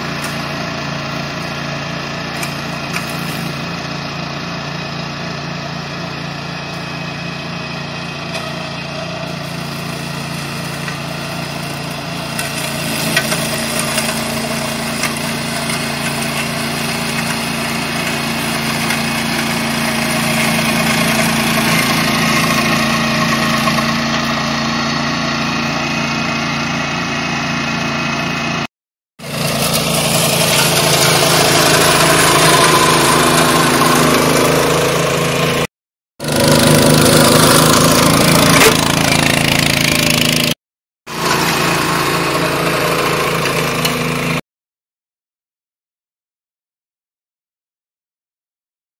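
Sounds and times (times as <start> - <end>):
mower cutting tall grass: 0.0 - 44.4
tractor engine running under load: 0.0 - 44.4.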